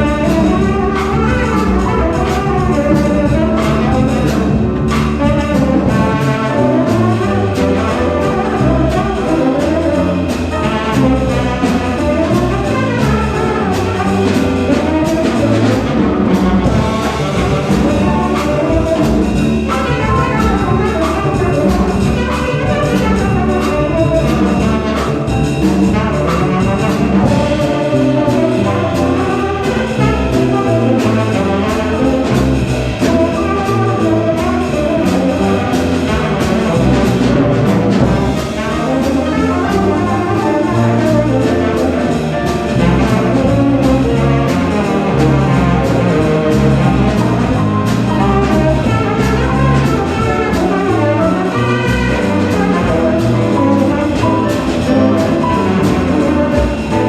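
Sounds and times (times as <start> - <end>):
bass notes: 0.0 - 57.0
jazz band playing live: 0.0 - 57.0.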